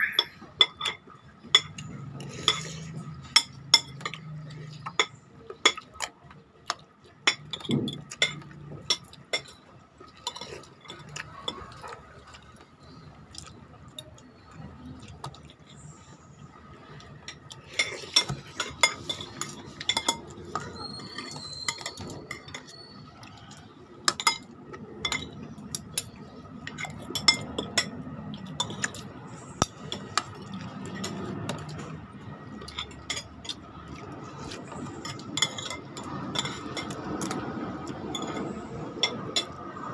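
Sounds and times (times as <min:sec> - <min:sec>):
cutlery clinking on plates: 0:00.0 - 0:12.3, 0:17.2 - 0:39.8.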